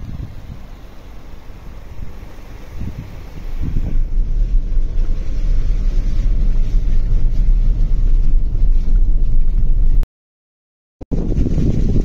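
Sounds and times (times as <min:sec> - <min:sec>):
car driving on dirt road: 0:00.0 - 0:10.0, 0:11.1 - 0:12.0
wind on microphone: 0:00.0 - 0:10.0, 0:11.1 - 0:12.0.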